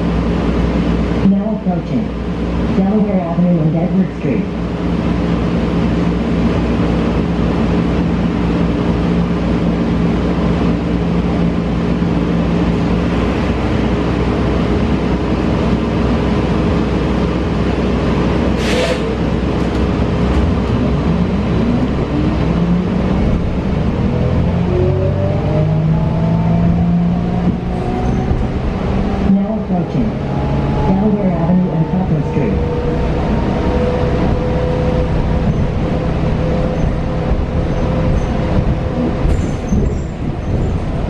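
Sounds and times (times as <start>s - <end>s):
road and tyre rumble: 0.0s - 41.0s.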